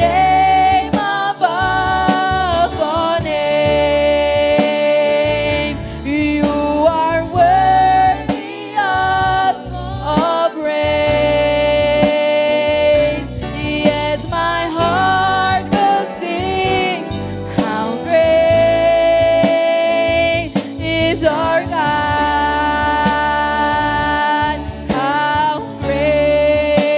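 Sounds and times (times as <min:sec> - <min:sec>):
bass and drums: 0:00.0 - 0:26.9.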